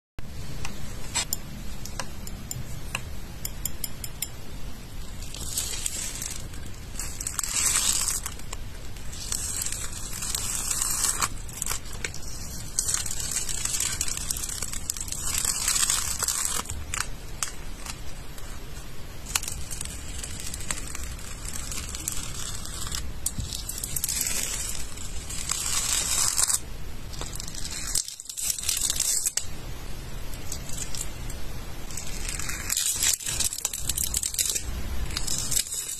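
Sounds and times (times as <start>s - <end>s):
film peeling off crackling: 5.0s - 29.5s, 30.3s - 35.9s.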